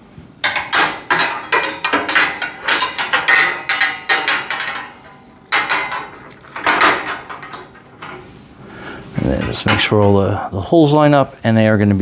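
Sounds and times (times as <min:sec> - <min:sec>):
metal rack parts clanking: 0:00.4 - 0:10.2.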